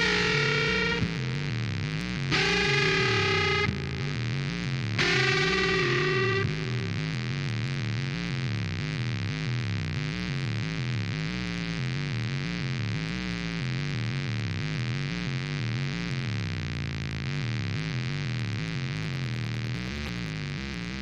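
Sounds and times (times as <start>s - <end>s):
droning guitar with pitch wobble: 0.0s - 21.0s.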